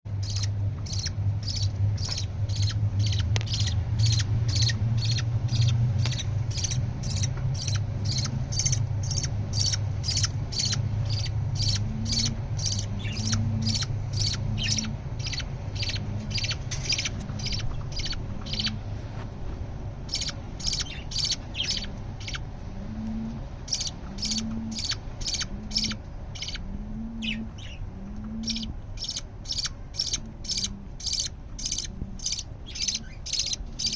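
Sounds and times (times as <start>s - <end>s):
bird chicks chirping: 0.1s - 18.9s, 20.0s - 22.5s, 23.2s - 33.9s
low steady hum: 0.1s - 33.9s.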